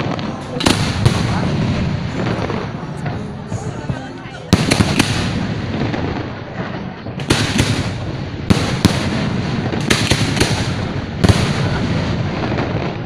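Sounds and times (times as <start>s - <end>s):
fireworks bursting: 0.0s - 13.0s
sharp fireworks bangs: 0.0s - 13.0s.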